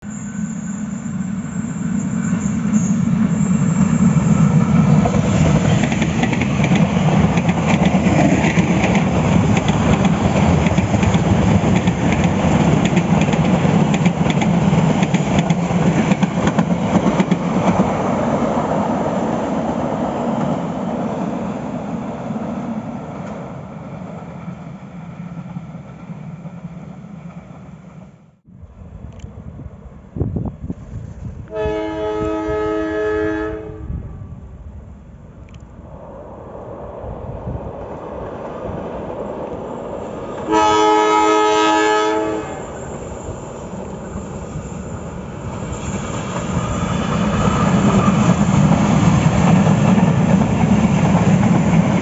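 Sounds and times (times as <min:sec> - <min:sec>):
train wheels rumbling on rails: 0:00.2 - 0:32.6, 0:35.5 - 0:52.0.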